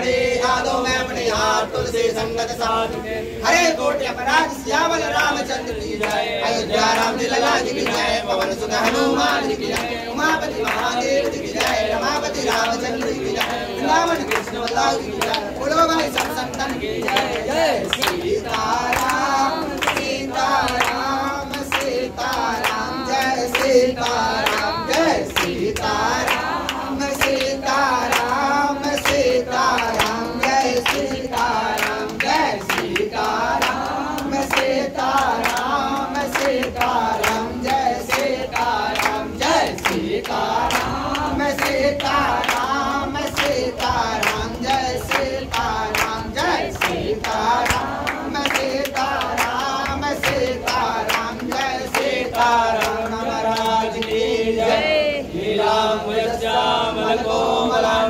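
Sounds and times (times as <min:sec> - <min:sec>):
group singing a hymn: 0:00.0 - 0:58.0
rhythmic hand clapping: 0:00.0 - 0:58.0.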